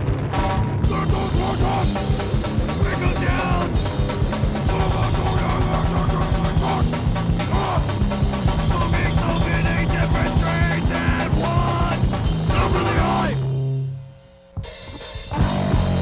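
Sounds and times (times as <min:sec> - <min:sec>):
punk rock music: 0:00.0 - 0:16.0.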